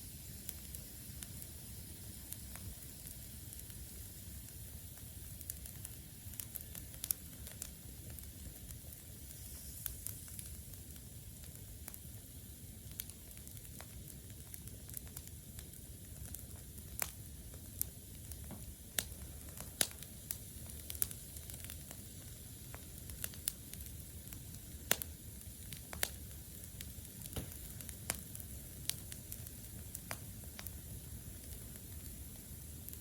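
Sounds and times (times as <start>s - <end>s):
campfire flame rushing: 0.2s - 33.0s
fire pops and crackles: 0.2s - 33.0s.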